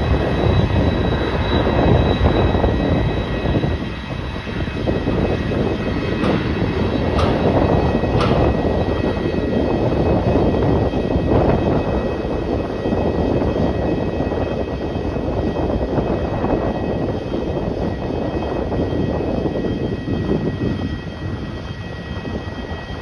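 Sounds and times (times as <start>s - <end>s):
jet engines rumbling and whining: 0.0s - 23.0s.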